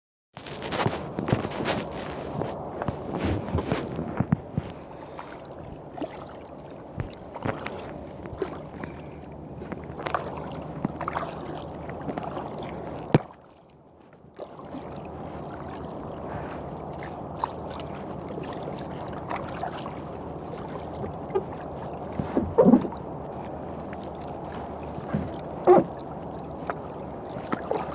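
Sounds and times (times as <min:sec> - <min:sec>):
paddle splashing in water: 0:00.4 - 0:27.9
water lapping against hull: 0:00.4 - 0:27.9.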